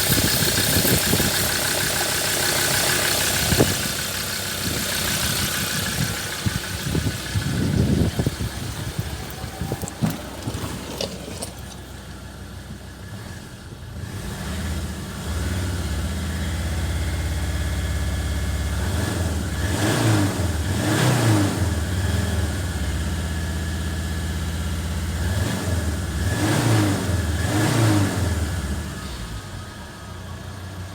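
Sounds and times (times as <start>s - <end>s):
diesel engine idling and revving: 0.0s - 30.9s.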